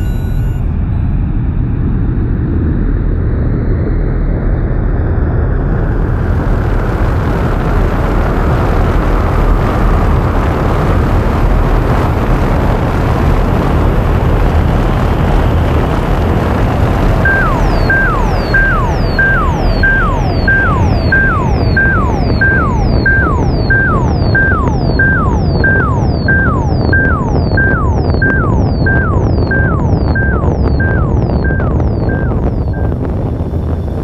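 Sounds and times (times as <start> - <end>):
spaceship engine rumble: 0.0 - 34.0.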